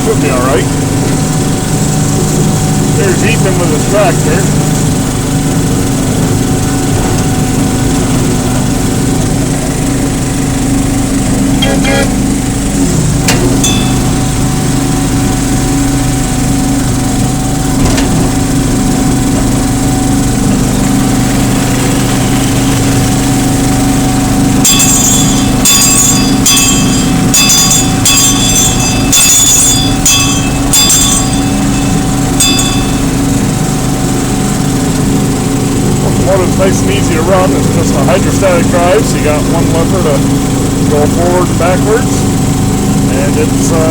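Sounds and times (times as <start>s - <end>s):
locomotive engine running: 0.0s - 43.9s.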